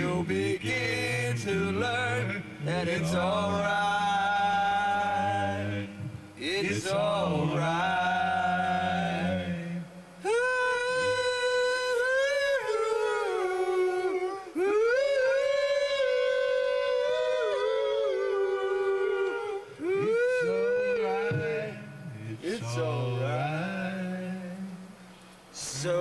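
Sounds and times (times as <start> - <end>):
high voice singing wordlessly: 0.0 - 25.0, 25.6 - 26.0
low held hum: 0.0 - 26.0.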